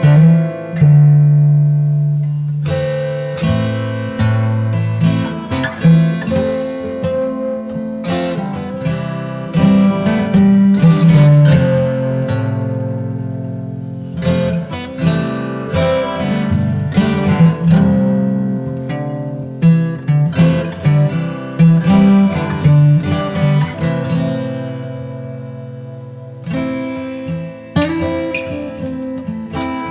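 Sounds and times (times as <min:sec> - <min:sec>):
acoustic guitar strumming: 0:00.0 - 0:29.9.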